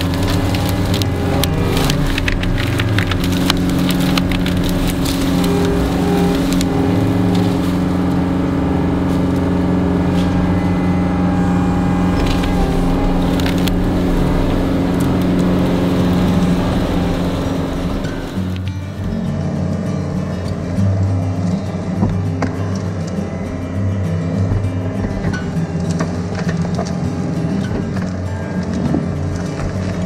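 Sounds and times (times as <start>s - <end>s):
branches cracking and snapping: 0.0s - 19.2s, 25.0s - 30.0s
diesel engine running under load: 0.0s - 30.0s.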